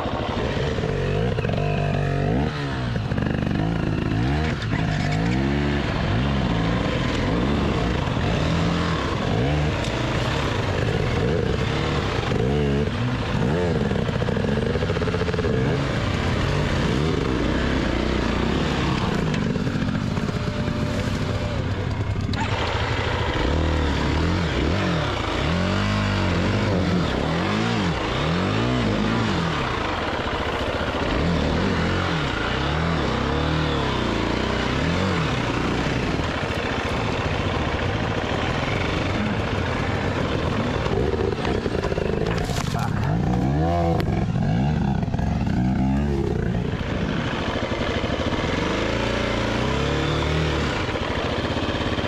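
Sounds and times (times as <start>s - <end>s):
constant rush of noise: 0.0s - 52.0s
dirt bike engine revving: 0.0s - 52.0s.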